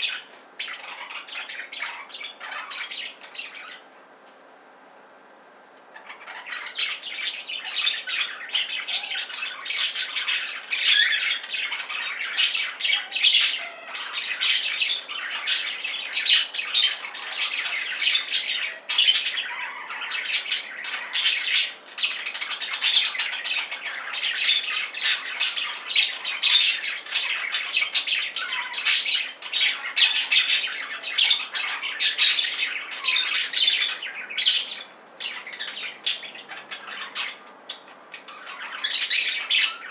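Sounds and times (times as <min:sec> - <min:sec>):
budgerigars chattering and squawking: 0:00.0 - 0:03.8, 0:05.9 - 0:39.9.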